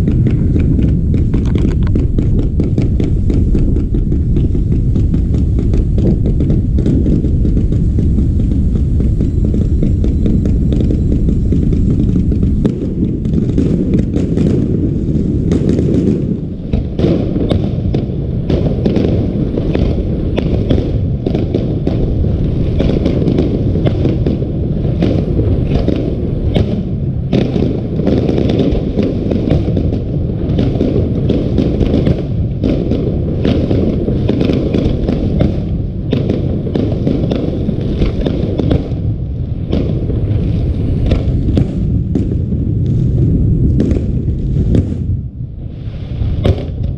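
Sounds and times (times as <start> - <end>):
fireworks bangs and crackles: 0.0 - 46.9
low rumble: 0.0 - 46.9.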